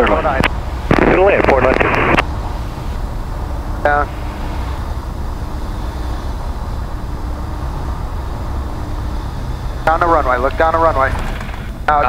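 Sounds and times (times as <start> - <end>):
aircraft engine drone: 0.0 - 12.0
airflow noise: 0.0 - 12.0.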